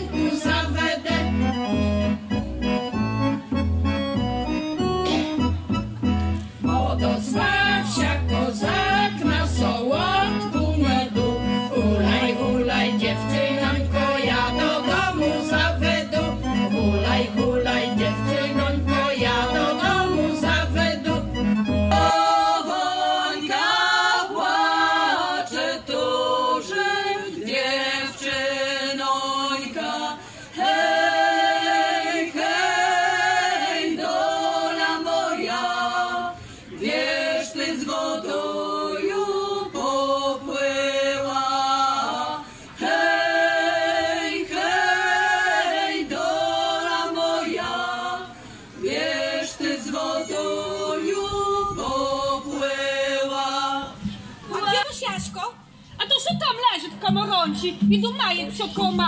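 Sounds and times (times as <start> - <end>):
women's choir singing unaccompanied: 0.0 - 2.2, 6.6 - 54.9
accordion song with bass beat: 0.0 - 59.0.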